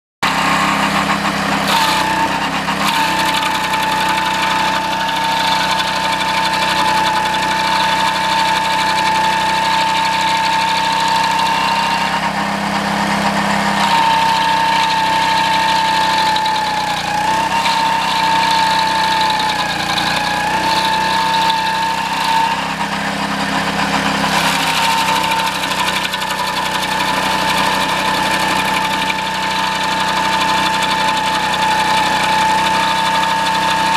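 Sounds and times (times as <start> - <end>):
small engine running: 0.2 - 33.9.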